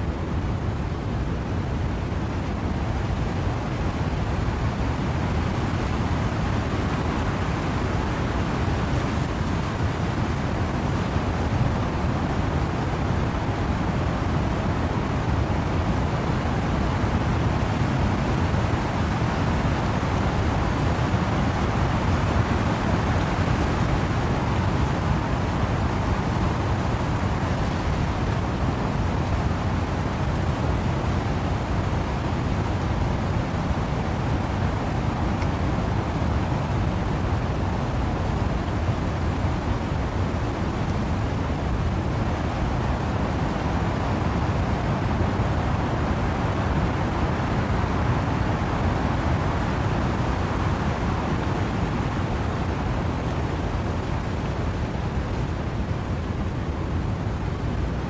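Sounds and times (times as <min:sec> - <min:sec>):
wind through trees: 0:00.0 - 0:58.0
wind-driven rain: 0:00.0 - 0:58.0.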